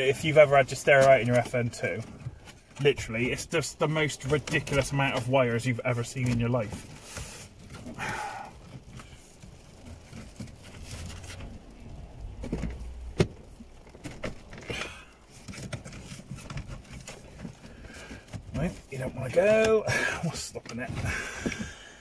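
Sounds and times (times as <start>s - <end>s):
plastic rustling and handling: 0.0s - 22.0s.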